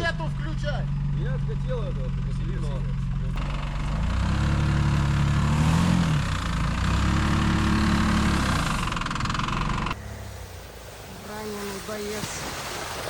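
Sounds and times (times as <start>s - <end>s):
car engine running: 0.0s - 11.7s.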